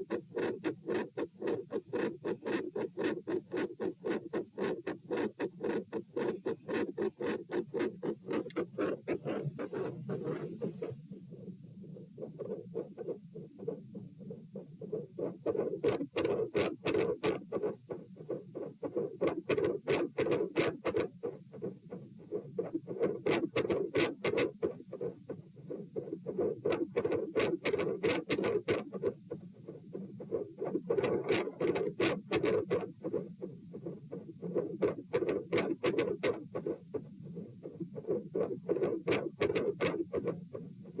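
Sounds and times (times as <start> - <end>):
heartbeat through stethoscope: 0.0 - 41.0
stethoscope rubbing on skin: 0.0 - 41.0.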